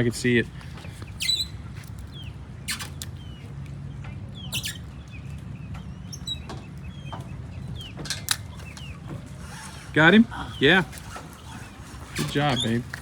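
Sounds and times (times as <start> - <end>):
birds clucking and chirping: 0.0 - 13.0.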